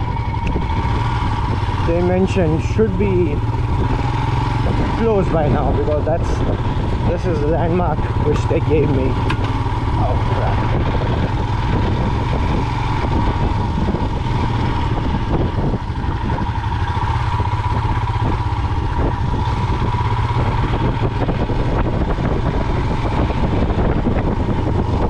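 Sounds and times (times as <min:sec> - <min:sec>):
knocks and rattles on rough road: 0:00.0 - 0:25.0
motorcycle engine running: 0:00.0 - 0:25.0.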